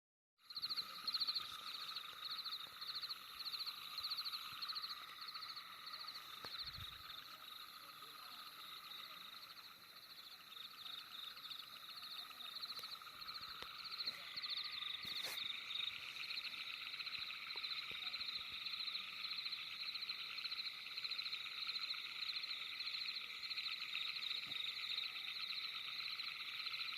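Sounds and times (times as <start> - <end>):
frogs trilling: 0.4 - 26.9.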